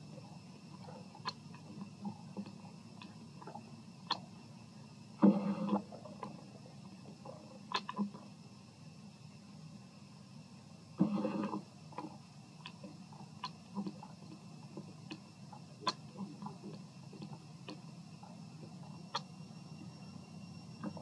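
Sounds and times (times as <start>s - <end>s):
faint high hum: 0.0s - 21.0s.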